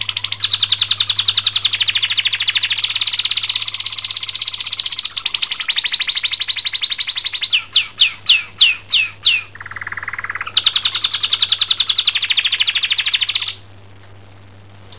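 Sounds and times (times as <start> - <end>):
canary singing trills: 0.0 - 13.6.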